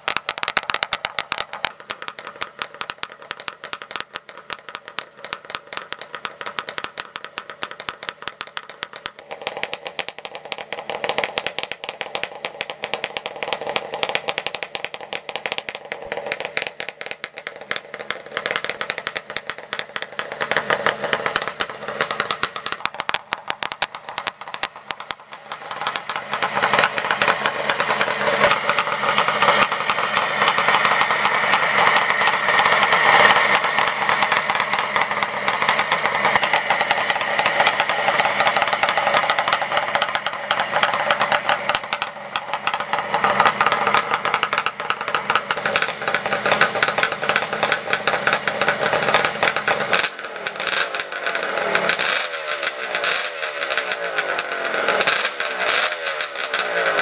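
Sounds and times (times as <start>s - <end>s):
two-stroke motorcycle engine idling: 0.0s - 57.0s.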